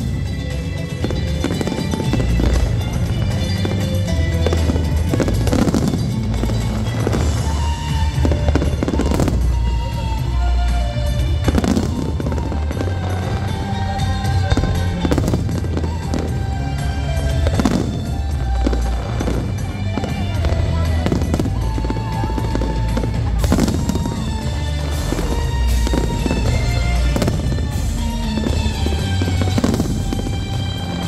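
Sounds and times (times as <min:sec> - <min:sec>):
fireworks bangs and crackles: 0:00.0 - 0:31.0
loud music with heavy bass: 0:00.0 - 0:31.0.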